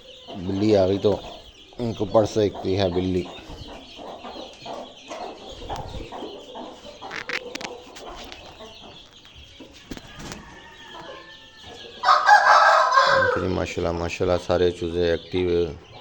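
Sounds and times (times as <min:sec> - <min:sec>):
chicks cheeping: 0:00.0 - 0:16.0
hens clucking: 0:00.0 - 0:16.0.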